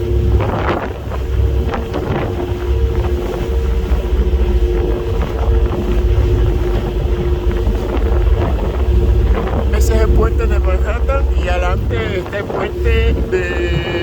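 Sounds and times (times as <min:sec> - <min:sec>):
ferry engine drone: 0:00.0 - 0:14.0
wind buffeting microphone: 0:00.0 - 0:14.0.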